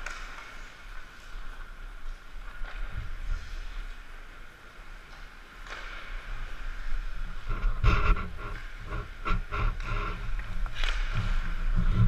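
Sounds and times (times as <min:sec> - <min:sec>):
skate scrapes and knocks: 0:00.0 - 0:12.0.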